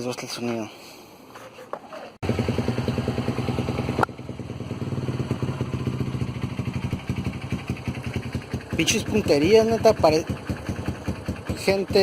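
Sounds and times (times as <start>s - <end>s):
motorcycle engine popping: 2.2s - 12.0s.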